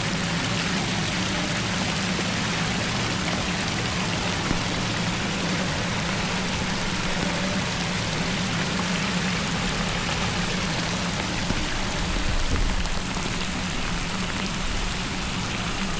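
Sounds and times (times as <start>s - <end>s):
water rushing and pattering: 0.0s - 15.9s
low rumbling: 1.0s - 15.9s.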